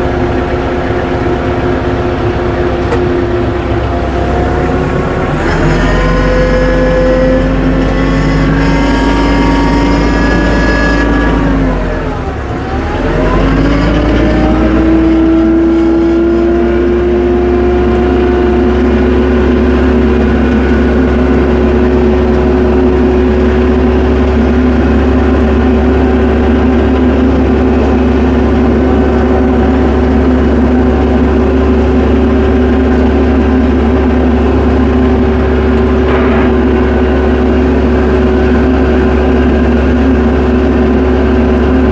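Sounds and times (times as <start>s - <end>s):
tractor engine revving: 0.0s - 41.9s.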